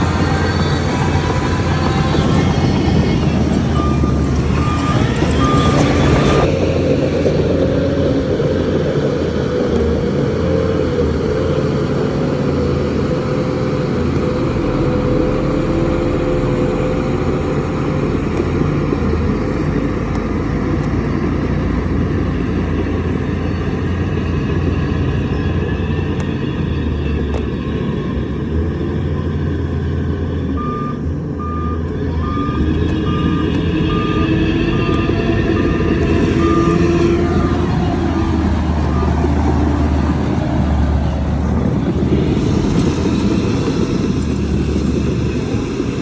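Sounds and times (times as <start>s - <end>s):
heavy diesel engine rumbling: 0.0s - 46.0s.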